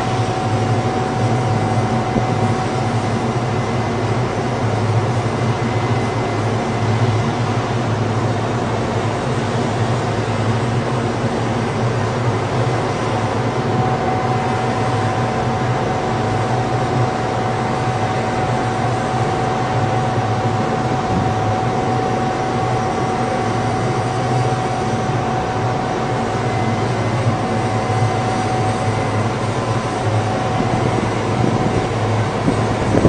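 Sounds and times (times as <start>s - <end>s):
crane machinery humming: 0.0s - 33.0s
high machinery whine: 0.0s - 33.0s.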